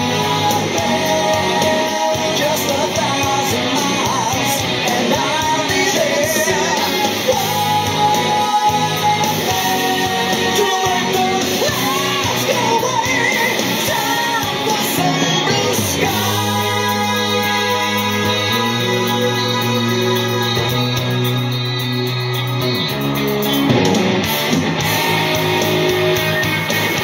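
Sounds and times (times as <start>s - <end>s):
rock song over speaker: 0.0s - 27.0s.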